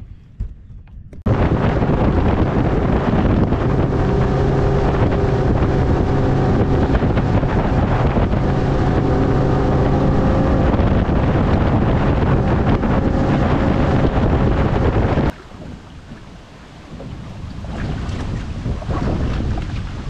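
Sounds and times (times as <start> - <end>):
wind buffeting microphone: 0.0 - 20.0
boat engine drone: 1.3 - 20.0
water rushing against hull: 1.3 - 20.0.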